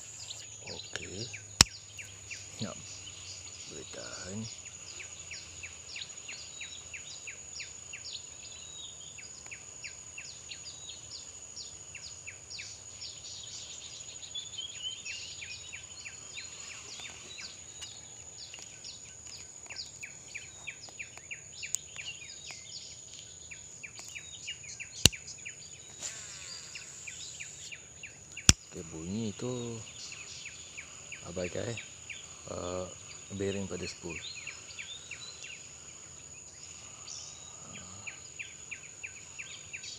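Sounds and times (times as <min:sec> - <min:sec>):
bird chirps: 0:00.0 - 0:39.9
insect drone: 0:00.0 - 0:39.9.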